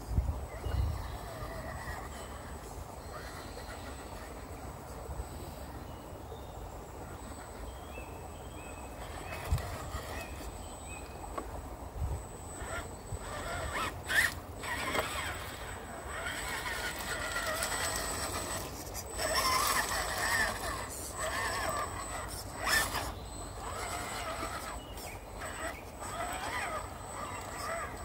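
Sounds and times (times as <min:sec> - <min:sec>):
electric motor and gearbox whining: 0:00.1 - 0:04.5, 0:07.0 - 0:28.0.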